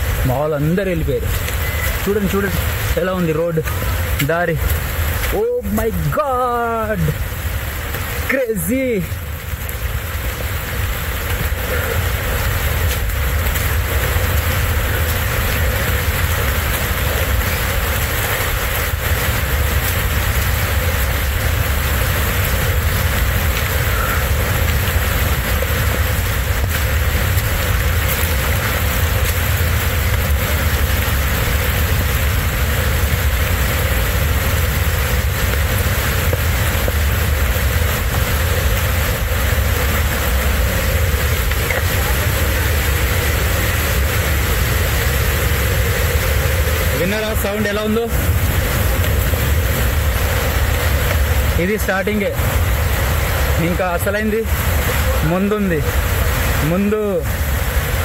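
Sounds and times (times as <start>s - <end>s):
fast-flowing water rushing: 0.0s - 58.0s
low rumble: 0.0s - 58.0s.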